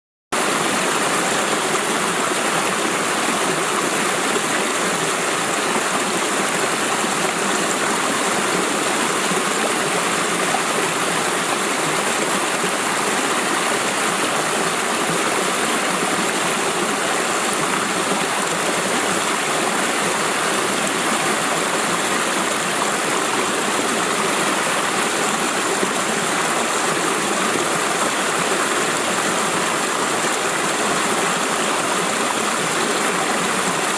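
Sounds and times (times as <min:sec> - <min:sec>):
water rushing over waterfall: 0:00.4 - 0:33.9.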